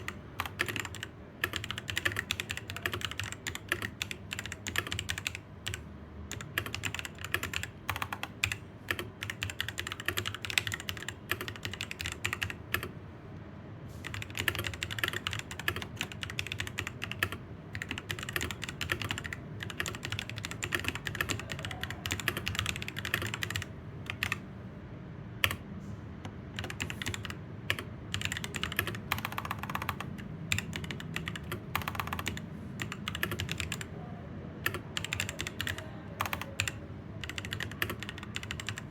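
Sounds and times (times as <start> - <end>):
fast mechanical keyboard typing: 0.0 - 13.0, 14.0 - 24.5, 25.4 - 25.6, 26.3 - 34.0, 34.6 - 38.9.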